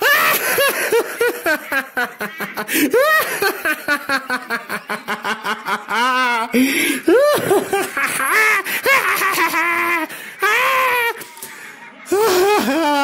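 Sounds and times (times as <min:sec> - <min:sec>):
maniacal laughter: 0:00.0 - 0:13.0.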